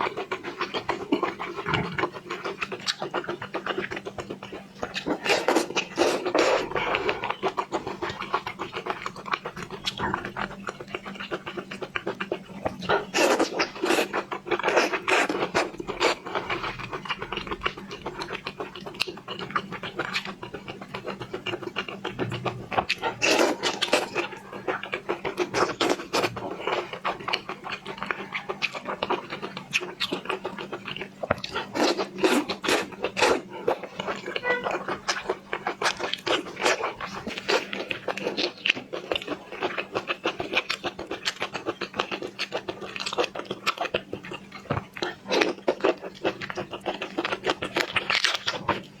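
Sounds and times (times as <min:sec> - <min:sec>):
chewing seafood: 0:00.0 - 0:49.0
faint low hum: 0:00.0 - 0:49.0.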